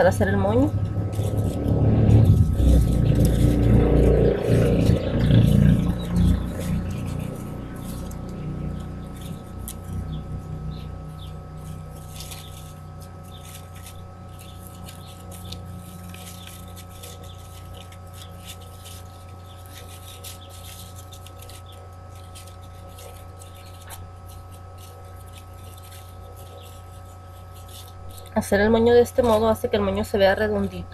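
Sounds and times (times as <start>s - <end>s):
ribbon rustling: 0.0s - 30.9s
steady background hum: 0.0s - 30.9s.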